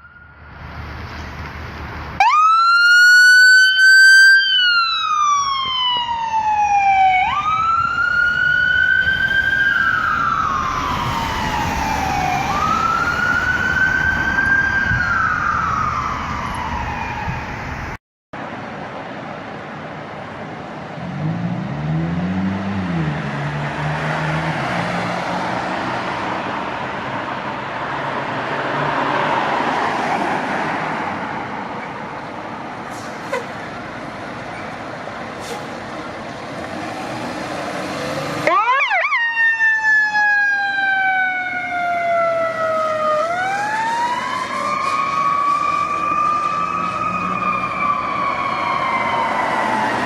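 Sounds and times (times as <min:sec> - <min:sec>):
emergency vehicle siren: 0:00.0 - 0:00.7, 0:02.2 - 0:18.0, 0:22.9 - 0:50.0
rushing traffic: 0:00.0 - 0:50.0.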